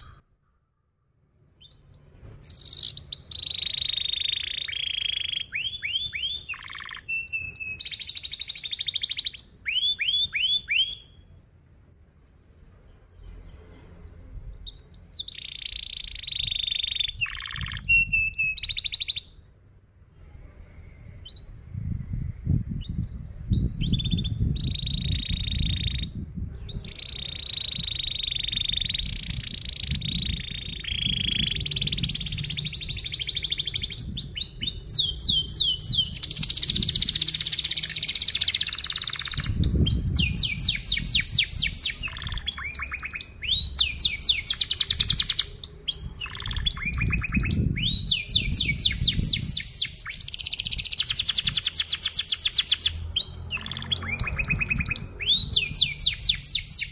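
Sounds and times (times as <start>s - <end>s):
canary singing trills and chirps: 0.0s - 0.4s, 1.6s - 11.4s, 14.1s - 19.5s, 22.8s - 56.9s.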